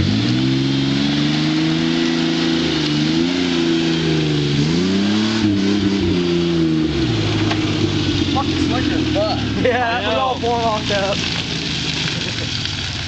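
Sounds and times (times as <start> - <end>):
off-road engine revving hard: 0.0 - 13.0.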